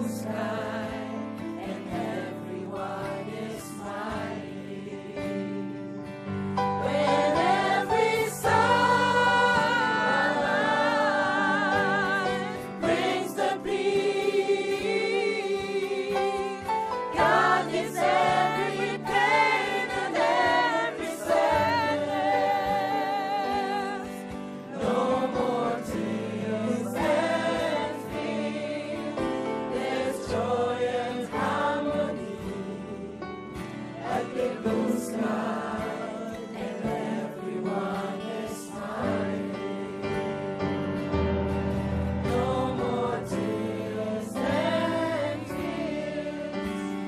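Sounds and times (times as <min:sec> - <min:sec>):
group singing gospel-style song: 0:00.0 - 0:47.0
instrumental accompaniment: 0:00.0 - 0:47.0.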